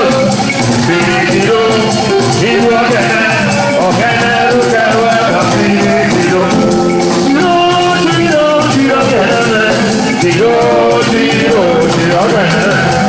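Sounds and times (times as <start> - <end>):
live latin band music: 0.0 - 13.0
shaker rhythm: 0.0 - 13.0.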